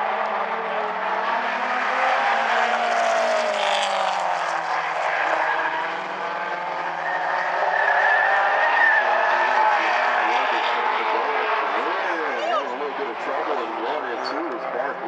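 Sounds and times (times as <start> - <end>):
race car engines: 0.0 - 15.0
race car passing by: 0.8 - 15.0.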